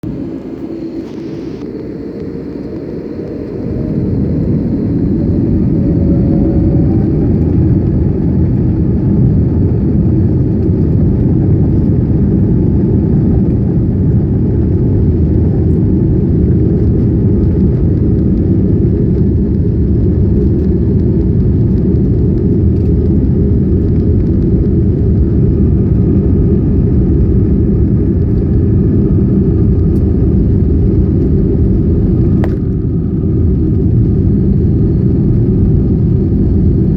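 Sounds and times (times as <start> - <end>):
jet engines rumbling: 0.0 - 36.9
rising engine whine: 0.0 - 36.9.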